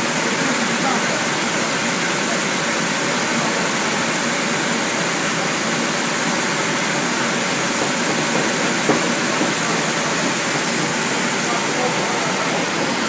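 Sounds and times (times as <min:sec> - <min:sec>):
printing press running: 0:00.0 - 0:13.0.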